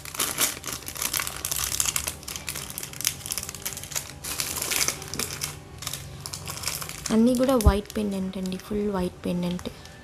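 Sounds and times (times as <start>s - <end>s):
plastic packets crinkling: 0.0s - 8.8s.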